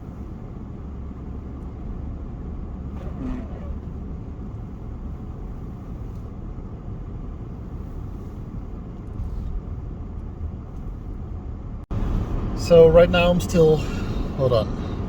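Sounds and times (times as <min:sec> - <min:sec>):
car interior engine and road rumble: 0:00.0 - 0:15.0.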